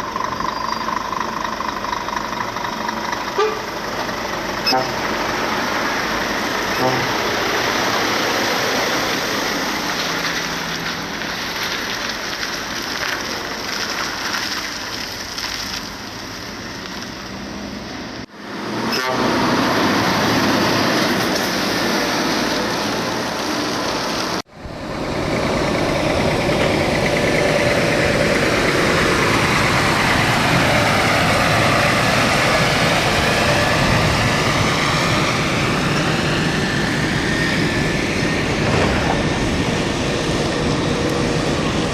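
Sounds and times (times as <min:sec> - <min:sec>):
vehicles driving on a road: 0:00.0 - 0:41.9.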